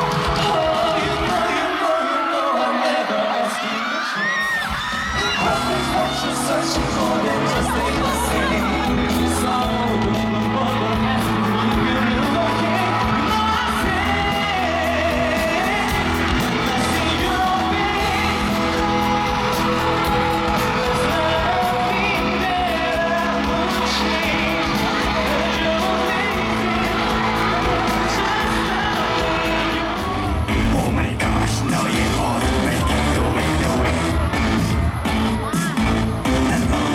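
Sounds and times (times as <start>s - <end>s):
crowd yelling and whooping: 0.0s - 36.9s
live pop music with singer: 0.0s - 36.9s.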